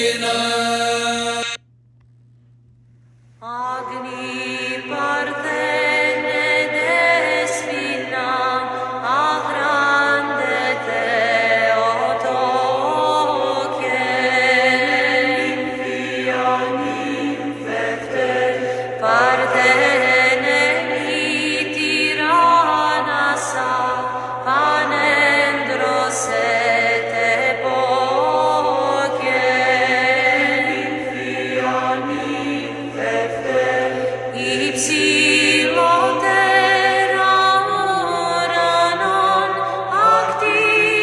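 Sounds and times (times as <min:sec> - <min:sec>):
person chanting melismatic hymn: 0:00.0 - 0:01.6, 0:03.4 - 0:41.0.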